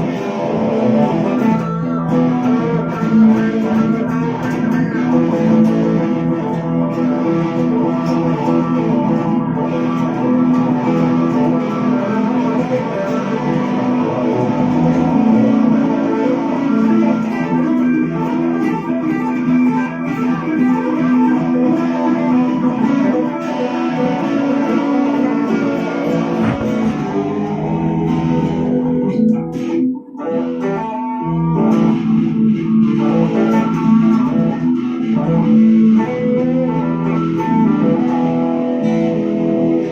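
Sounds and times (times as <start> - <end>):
blues guitar improvising: 0.0 - 39.9.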